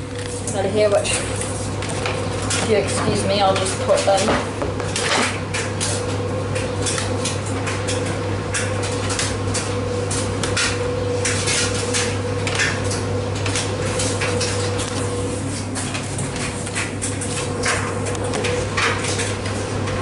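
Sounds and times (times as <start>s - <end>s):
washers and dryers humming: 0.0s - 20.0s.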